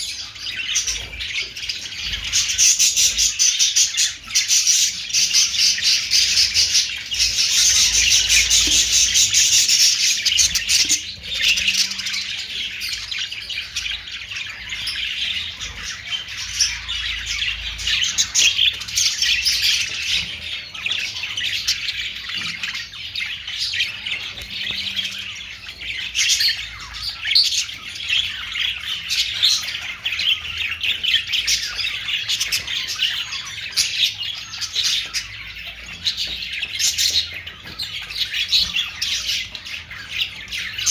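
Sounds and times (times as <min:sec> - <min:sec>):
budgerigars chattering and chirping: 0:00.0 - 0:40.9.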